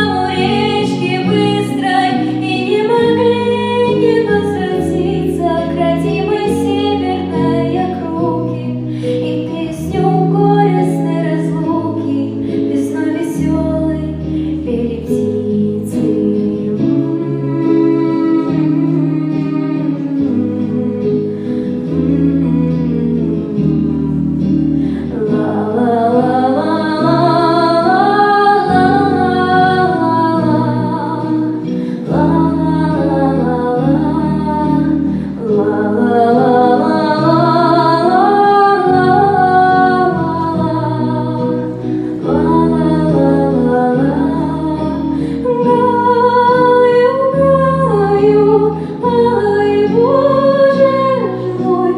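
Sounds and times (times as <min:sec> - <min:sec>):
bass notes: 0:00.0 - 0:51.9
plucked strings: 0:00.0 - 0:51.9
woman singing: 0:00.0 - 0:51.9.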